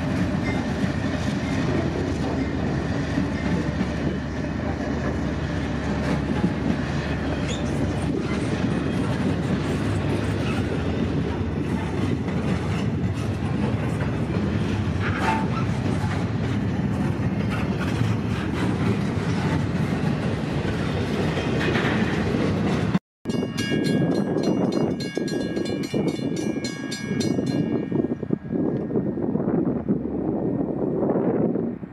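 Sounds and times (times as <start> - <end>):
wheels clacking over rail joints: 0.0 - 27.8
diesel locomotives running: 0.0 - 31.9.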